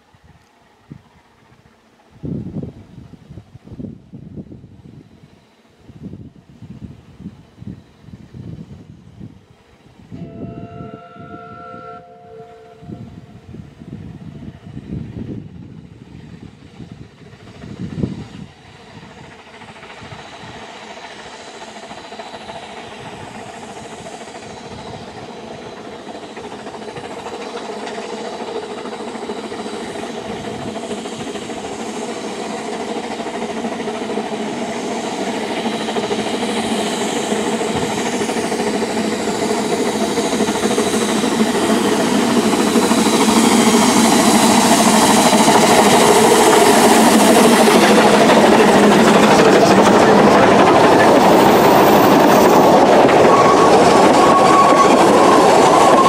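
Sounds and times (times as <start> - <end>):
steam locomotive hauling train: 0.0 - 56.0.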